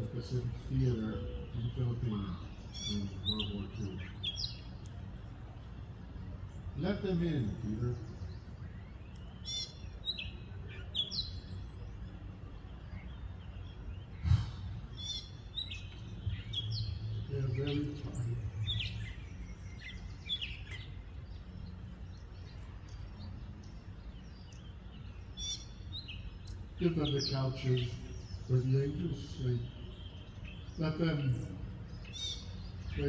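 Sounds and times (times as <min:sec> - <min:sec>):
low outdoor rumble: 0:00.0 - 0:33.0
small birds chirping: 0:00.0 - 0:33.0.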